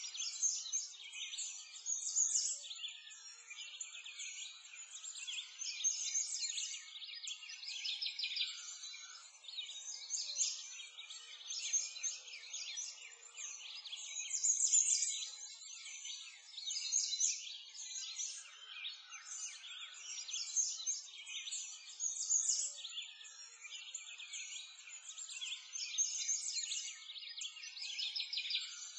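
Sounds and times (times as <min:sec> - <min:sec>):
small birds chirping and trilling: 0:00.0 - 0:28.9.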